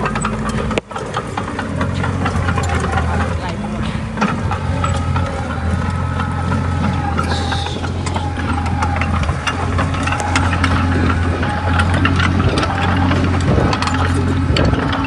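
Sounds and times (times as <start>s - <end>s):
bulldozer diesel engine running: 0.0s - 15.0s
clicks and clanks: 0.0s - 15.0s.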